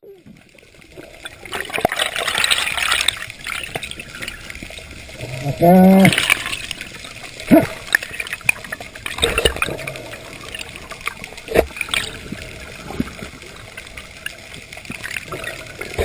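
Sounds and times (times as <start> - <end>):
moving water: 0.0 - 16.0
small splashes and clicks: 0.4 - 16.0.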